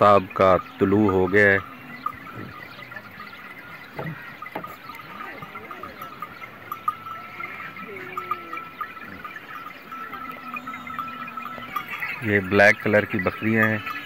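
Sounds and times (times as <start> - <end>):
sheep and goats bleating: 0.0 - 14.0
thin steady high tone: 0.0 - 14.0.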